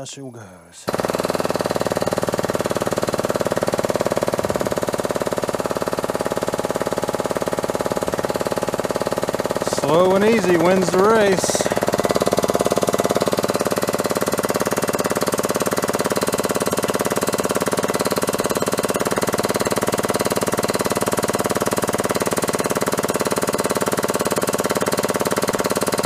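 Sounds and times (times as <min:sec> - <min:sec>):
air-driven pump chattering: 0:00.9 - 0:26.0.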